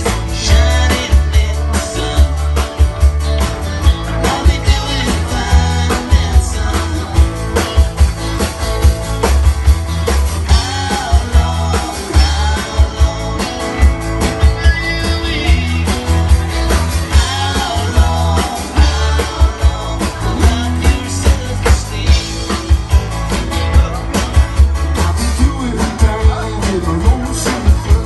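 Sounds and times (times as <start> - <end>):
person singing: 0.0 - 2.8, 3.4 - 8.0, 10.5 - 16.4, 17.1 - 28.0
hard-hit drum beat: 0.0 - 28.0
rock band playing: 0.0 - 28.0.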